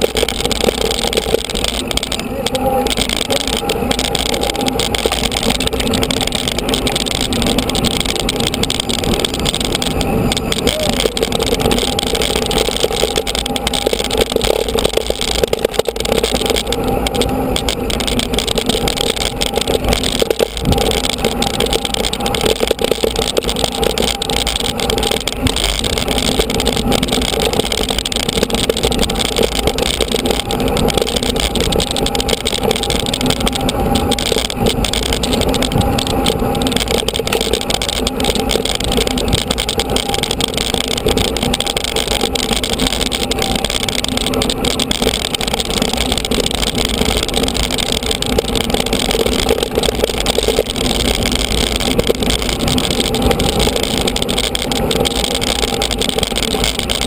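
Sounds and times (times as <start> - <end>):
bike rattling over bumps: 0.0 - 57.0
bike tyres on dirt track: 0.0 - 57.0.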